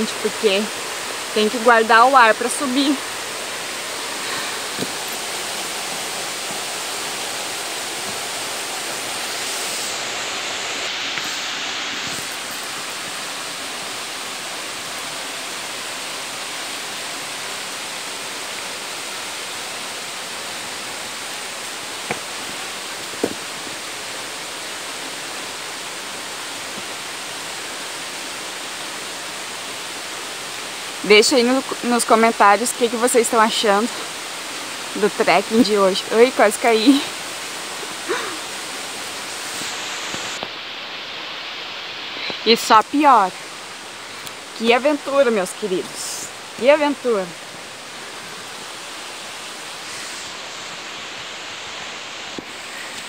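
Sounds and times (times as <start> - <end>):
waterfall and stream rushing: 0.0 - 53.0.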